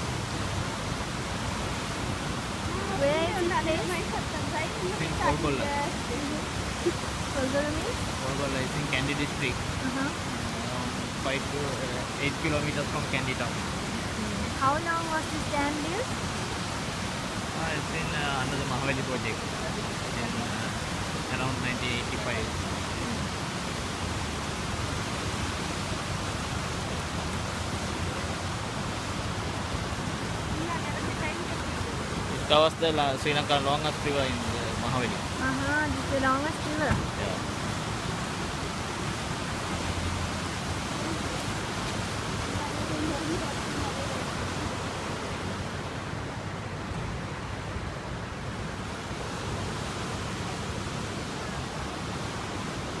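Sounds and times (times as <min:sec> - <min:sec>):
water rushing through spillway: 0:00.0 - 0:53.0.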